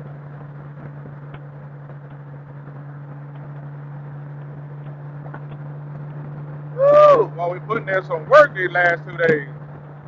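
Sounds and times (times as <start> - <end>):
motorcycle engine hum: 0.0 - 10.0
wind and road noise: 0.0 - 10.0.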